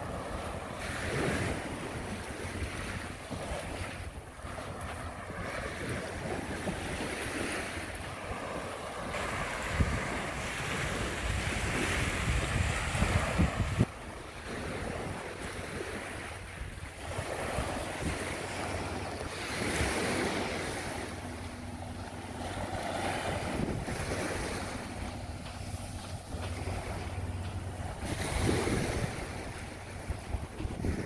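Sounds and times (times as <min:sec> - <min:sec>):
sea waves washing onto beach: 0:00.0 - 0:31.0
wind buffeting microphone: 0:00.0 - 0:31.0.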